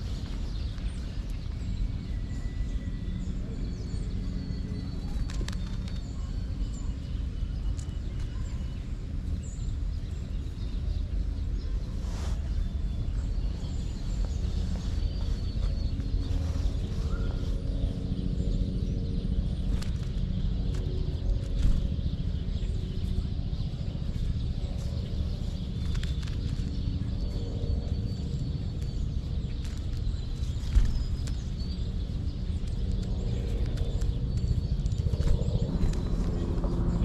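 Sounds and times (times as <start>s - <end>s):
low background rumble: 0.0s - 37.0s
songbirds whistling calls: 0.0s - 37.0s.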